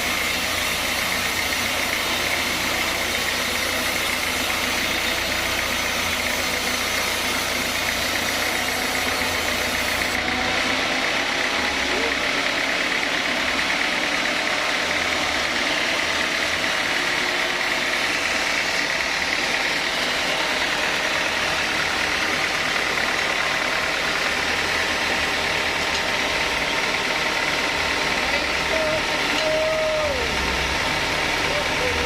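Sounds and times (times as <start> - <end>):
sawmill machinery drone: 0.0 - 32.0.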